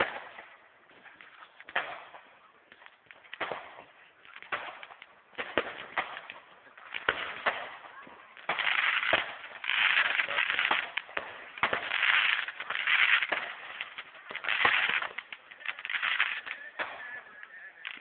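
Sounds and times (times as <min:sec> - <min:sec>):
distant firework bangs: 0:00.0 - 0:18.0
firework crackling: 0:00.0 - 0:18.0.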